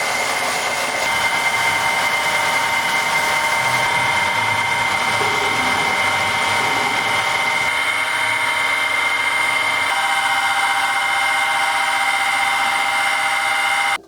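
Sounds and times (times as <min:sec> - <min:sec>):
power tool motor whining: 0:00.0 - 0:14.0.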